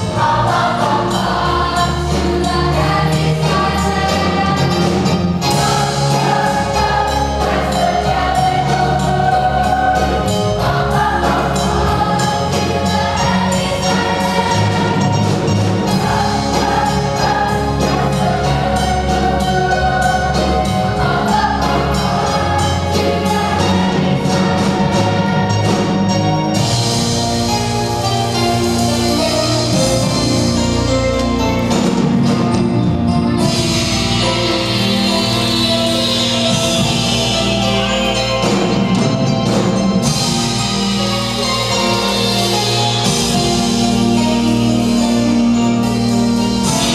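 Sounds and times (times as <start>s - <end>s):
instrumental accompaniment with beat: 0.0s - 46.9s.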